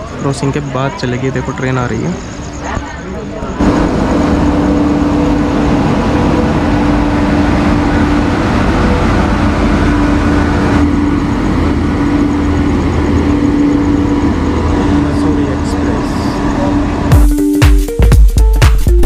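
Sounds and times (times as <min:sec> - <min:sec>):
passing train rumble: 0:00.0 - 0:17.4.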